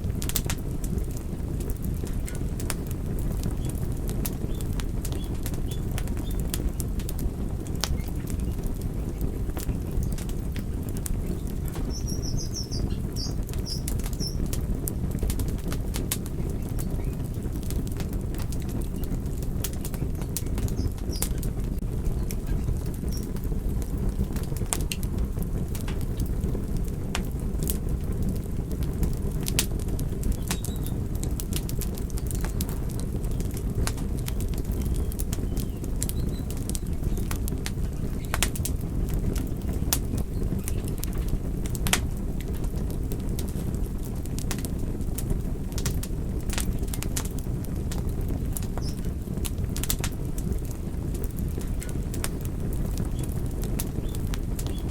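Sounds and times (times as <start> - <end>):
low rumble of burning: 0.0 - 54.9
wood fire crackling and popping: 0.0 - 54.9.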